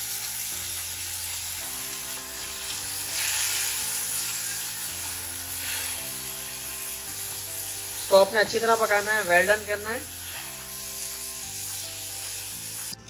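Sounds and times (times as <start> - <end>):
food sizzling in a frying pan: 0.0 - 13.0
soft background music: 0.0 - 13.0
spatula stirring: 1.6 - 13.0.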